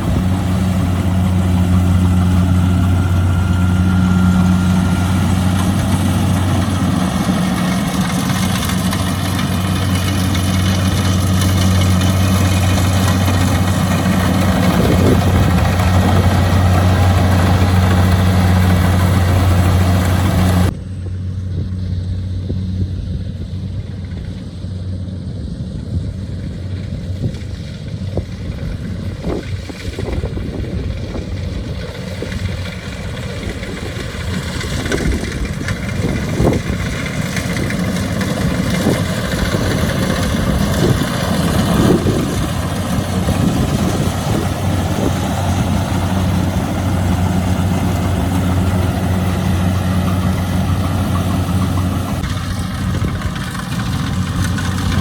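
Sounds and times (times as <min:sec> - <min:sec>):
harvester diesel engine humming: 0:00.0 - 0:55.0.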